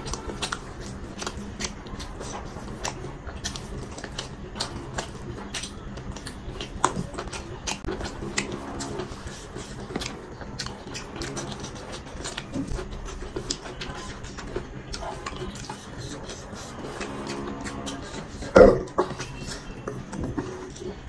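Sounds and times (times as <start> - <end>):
wet chewing and lip-smacking: 0.0 - 21.0.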